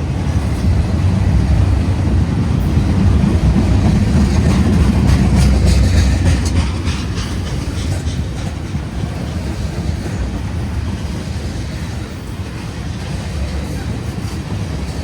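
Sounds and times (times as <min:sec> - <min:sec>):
train low rumble: 0:00.0 - 0:15.0
train wheels clicking over rail joints: 0:00.0 - 0:15.0.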